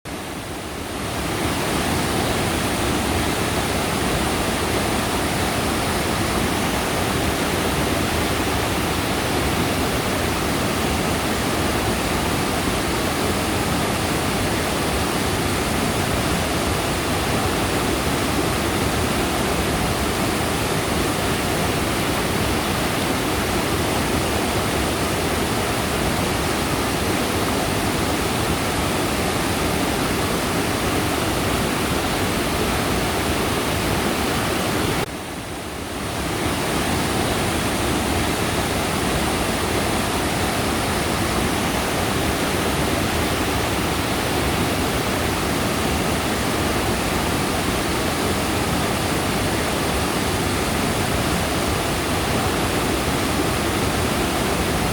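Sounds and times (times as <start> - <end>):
stream water rushing: 0.1 - 54.9.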